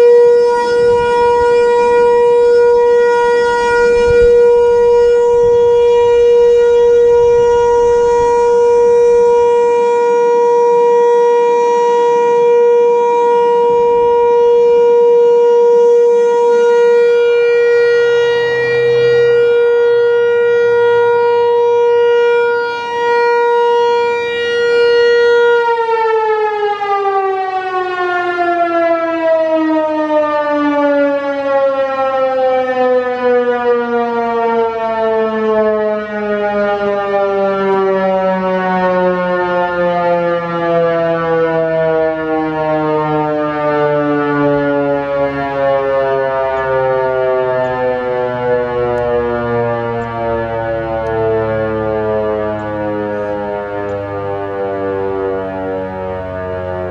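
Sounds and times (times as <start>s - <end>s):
warning siren winding down: 0.0s - 56.9s.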